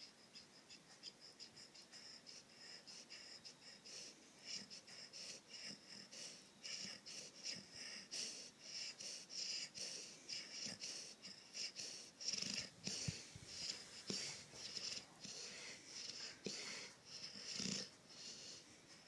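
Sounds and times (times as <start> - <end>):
wheezy whistling snoring: 1.4 - 18.6.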